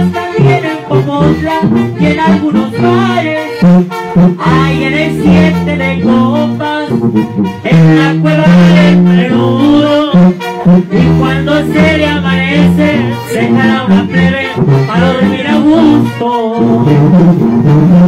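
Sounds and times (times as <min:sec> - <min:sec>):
man singing into microphone: 0:00.0 - 0:03.8, 0:04.4 - 0:18.0
brass band music: 0:00.0 - 0:18.0.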